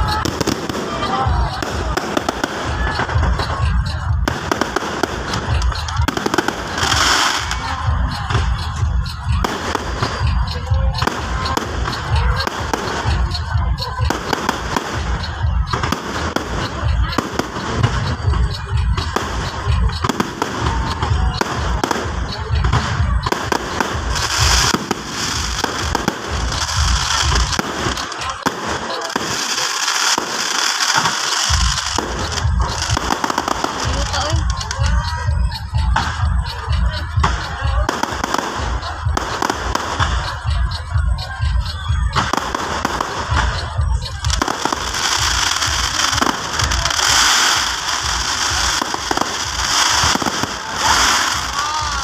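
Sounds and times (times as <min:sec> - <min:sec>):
firework cracks and crackling: 0:00.0 - 0:52.0.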